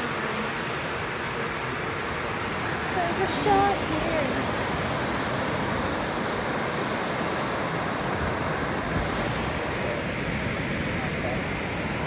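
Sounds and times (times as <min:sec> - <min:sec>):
river rushing through rapids: 0:00.0 - 0:12.0.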